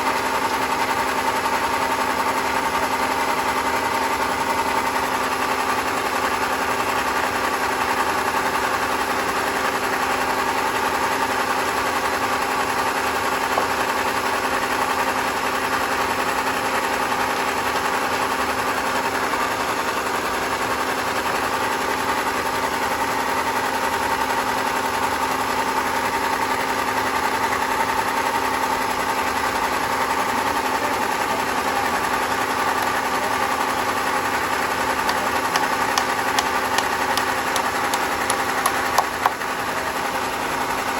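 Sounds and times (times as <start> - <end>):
sawmill machinery humming: 0.0 - 23.7, 28.8 - 40.9.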